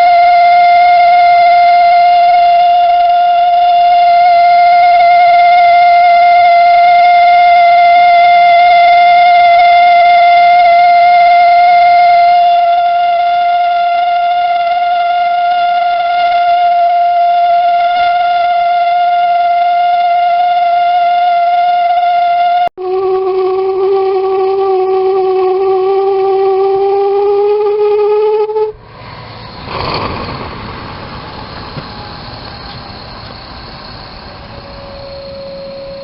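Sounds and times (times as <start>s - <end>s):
heater whistling resonance tone: 0.0s - 36.0s.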